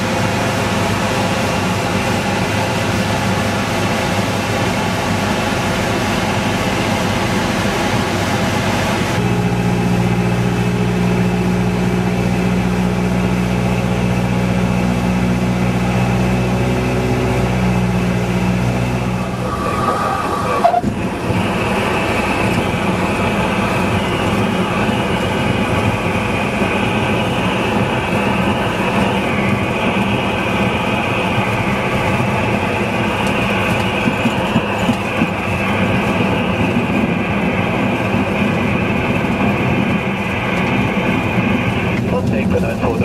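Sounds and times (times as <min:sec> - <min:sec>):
air and wheel rush: 0:00.0 - 0:43.0
propeller plane engine running: 0:00.0 - 0:43.0.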